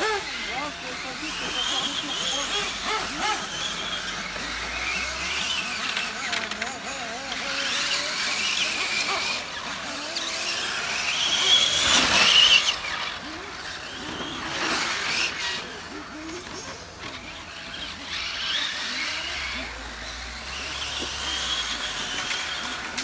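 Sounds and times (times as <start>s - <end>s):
electric motor whine of rc car: 0.0s - 23.0s.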